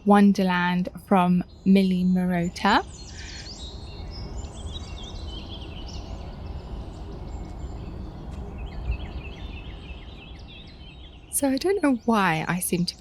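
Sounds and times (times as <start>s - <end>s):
steady low rumble: 0.0s - 13.0s
small birds chirping: 0.1s - 13.0s.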